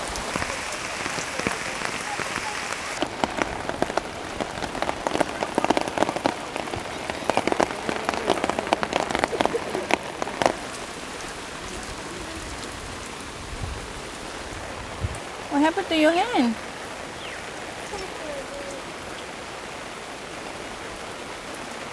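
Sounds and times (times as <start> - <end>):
rain falling on a surface: 0.0 - 21.9.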